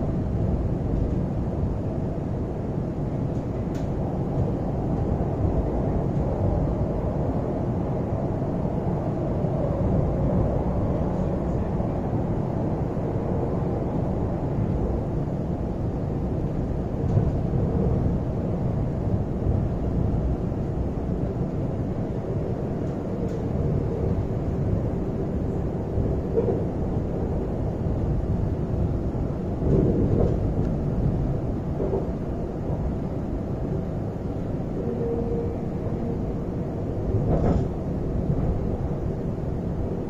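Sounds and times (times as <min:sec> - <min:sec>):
train cabin rumble: 0:00.0 - 0:40.0.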